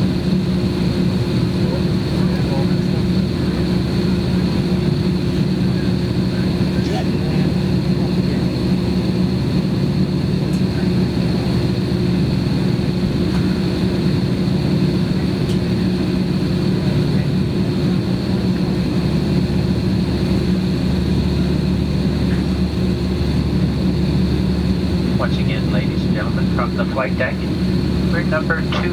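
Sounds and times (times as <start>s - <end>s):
high-pitched engine whine: 0.0s - 28.9s
jet engines humming: 0.0s - 28.9s.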